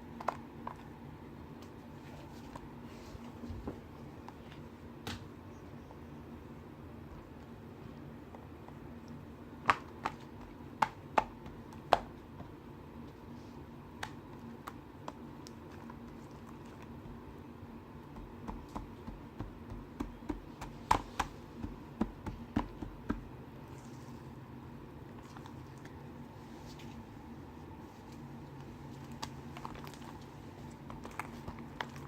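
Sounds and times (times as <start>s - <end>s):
low room hum: 0.0s - 32.0s.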